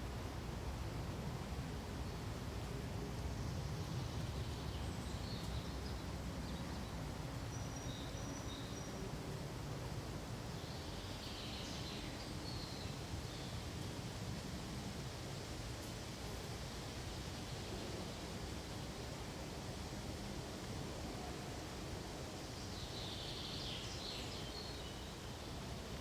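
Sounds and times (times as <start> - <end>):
wind through pines: 0.0 - 26.0.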